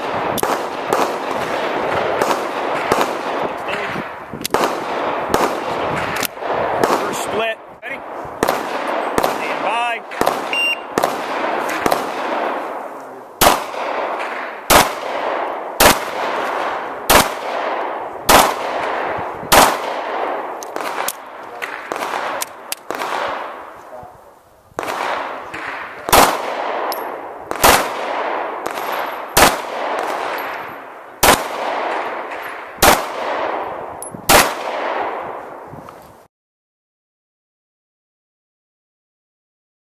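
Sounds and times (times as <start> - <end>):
pistol shots echoing: 0.0 - 23.8, 24.8 - 35.6.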